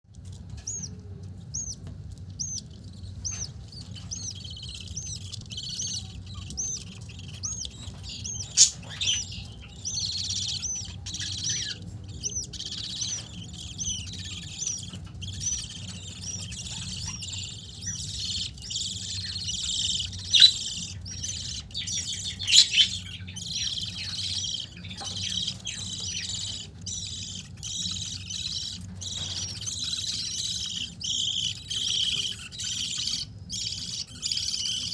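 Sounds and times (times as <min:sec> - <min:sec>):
steady low hum: 0:00.1 - 0:34.9
budgerigars chirping: 0:00.5 - 0:34.9.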